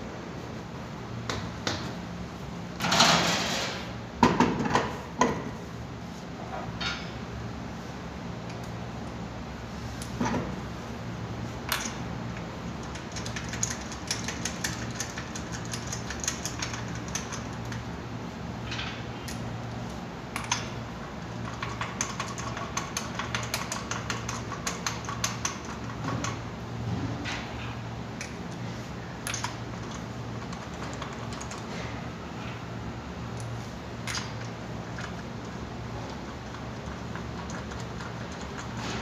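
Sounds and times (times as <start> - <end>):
steady low hum: 3.8 - 39.0.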